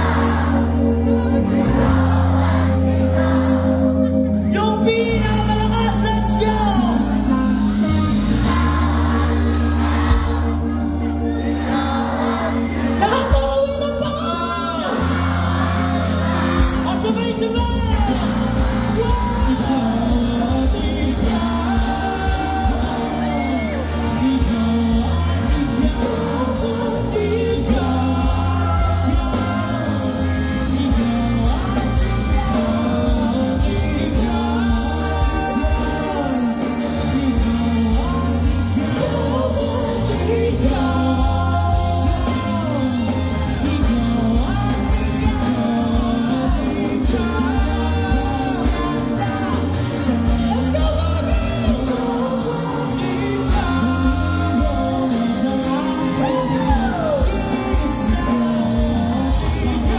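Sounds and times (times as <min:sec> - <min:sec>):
drum kit: 0:00.0 - 0:59.9
electric guitars: 0:00.0 - 0:59.9
keyboard: 0:00.0 - 0:59.9
lead vocal singing: 0:00.0 - 0:59.9.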